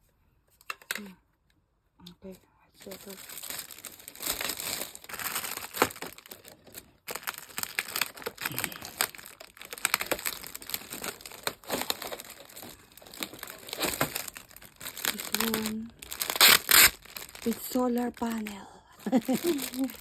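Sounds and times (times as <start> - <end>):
packaging crinkling: 2.8 - 20.0.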